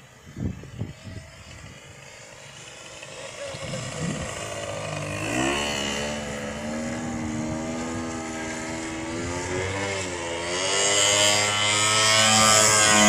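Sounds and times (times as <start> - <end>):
model airplane motor and propeller: 0.0 - 13.0.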